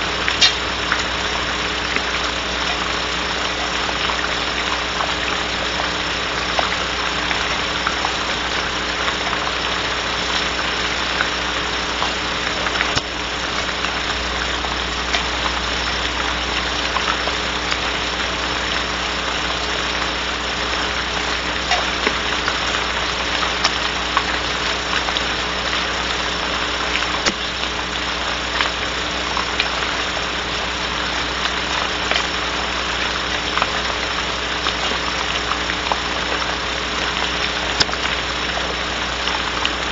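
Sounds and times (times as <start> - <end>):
low electrical hum: 0.0 - 39.9
rain hissing on wooden box: 0.0 - 39.9.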